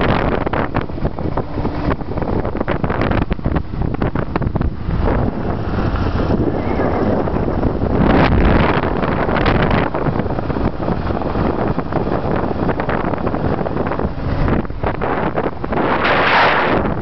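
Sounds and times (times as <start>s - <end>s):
motorcycle engine running: 0.0s - 16.1s
road noise: 0.0s - 17.0s
wind buffeting microphone: 0.0s - 17.0s.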